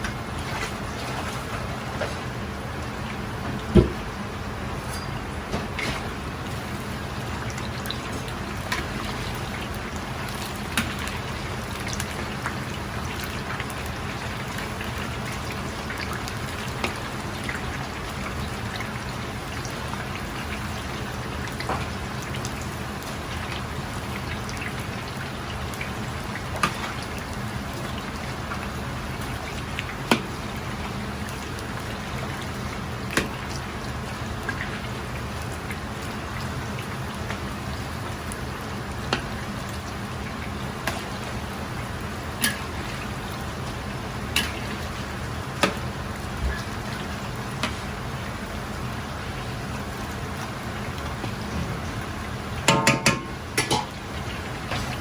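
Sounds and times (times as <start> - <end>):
chicken sizzling in oil: 0.0 - 55.0.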